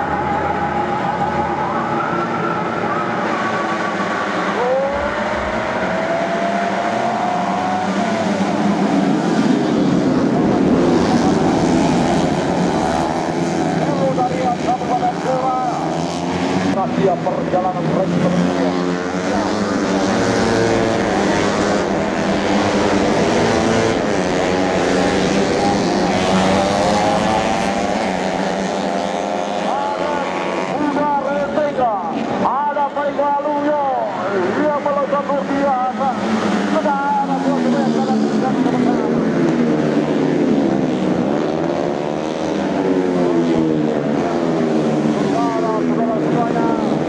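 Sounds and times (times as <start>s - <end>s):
racing motorcycles at high revs: 2.0s - 31.0s, 35.9s - 47.0s.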